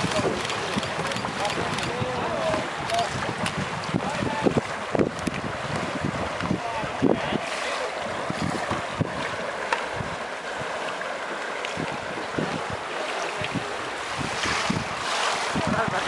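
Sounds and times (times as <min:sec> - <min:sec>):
wind buffeting microphone: 0:00.0 - 0:07.4, 0:08.0 - 0:10.8, 0:11.6 - 0:16.0
paddles splashing water: 0:00.0 - 0:16.0.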